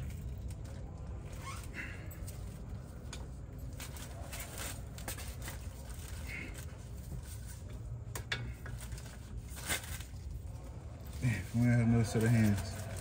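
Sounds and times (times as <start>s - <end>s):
steady low rumble: 2.0s - 13.0s.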